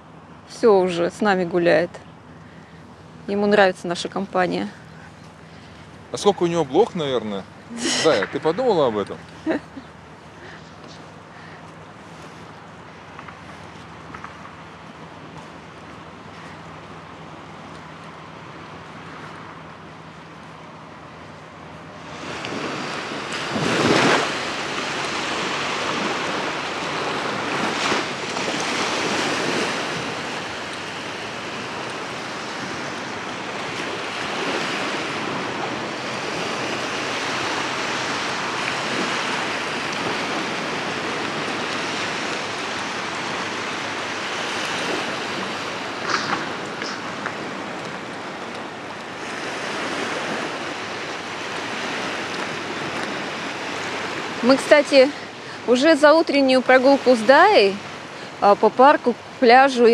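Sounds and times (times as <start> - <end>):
waves washing onto beach: 0.0 - 59.9.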